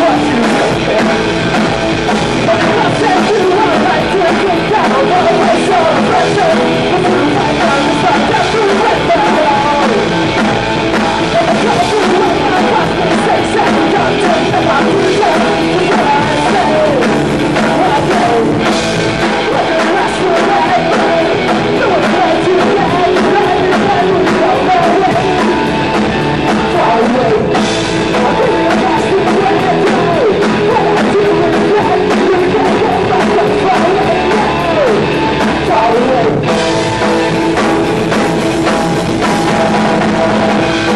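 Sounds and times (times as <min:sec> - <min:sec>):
drum kit: 0:00.0 - 0:40.9
electric guitar: 0:00.0 - 0:40.9
man singing into a microphone: 0:00.0 - 0:40.9.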